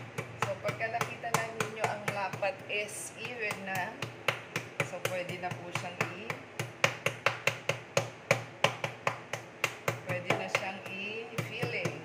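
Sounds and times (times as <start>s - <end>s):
fork pounding meat on board: 0.0s - 12.0s.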